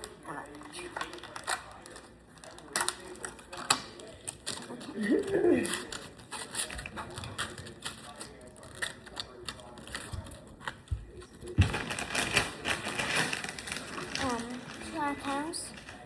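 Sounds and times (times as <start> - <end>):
plastic and cardboard crackling: 0.0 - 16.0.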